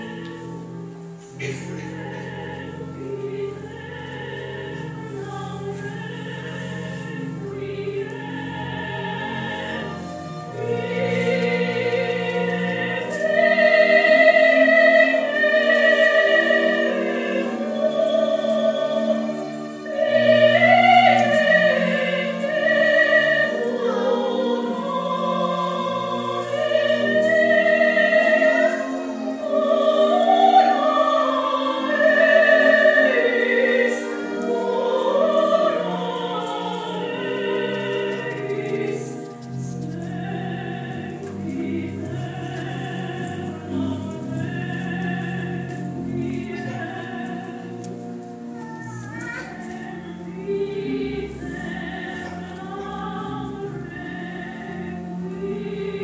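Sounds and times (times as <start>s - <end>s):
choir singing operatically: 0.0s - 48.6s, 49.2s - 56.0s
sustained low accompaniment: 0.0s - 56.0s.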